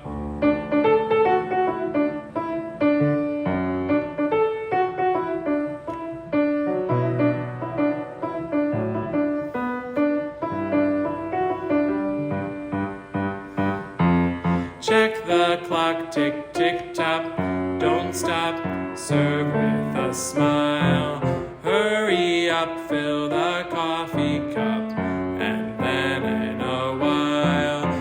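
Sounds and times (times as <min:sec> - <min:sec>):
piano playing: 0:00.0 - 0:28.0.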